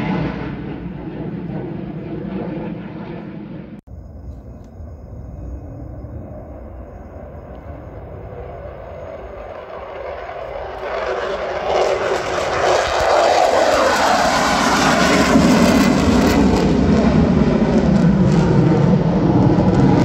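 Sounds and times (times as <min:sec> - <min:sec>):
fighter jet engine roar: 0:00.0 - 0:03.8, 0:04.8 - 0:20.0.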